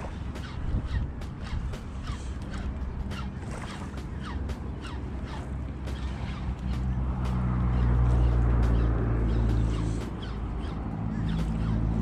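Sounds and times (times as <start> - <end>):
fishing reel creaking whir: 0.0 - 12.0.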